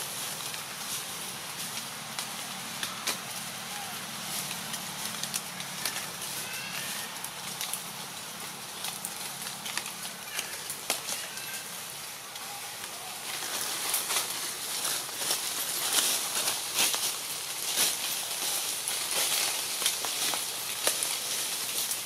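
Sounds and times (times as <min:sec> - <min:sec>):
dry leaves crackling: 0:00.0 - 0:22.0.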